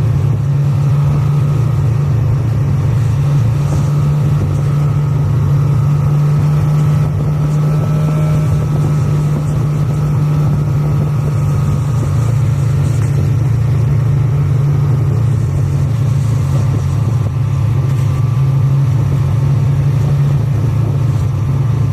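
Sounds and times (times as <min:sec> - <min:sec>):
snowmobile engine running: 0:00.0 - 0:21.9.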